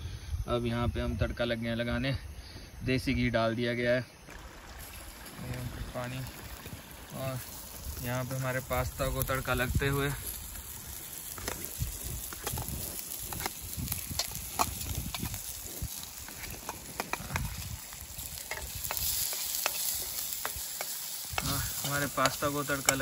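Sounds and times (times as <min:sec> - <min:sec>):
ghee sizzling in a pan: 0:04.2 - 0:23.0.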